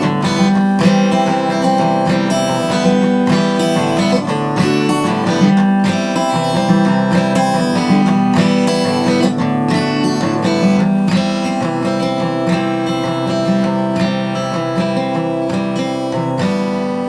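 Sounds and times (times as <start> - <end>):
strummed acoustic guitar music: 0.0 - 17.0.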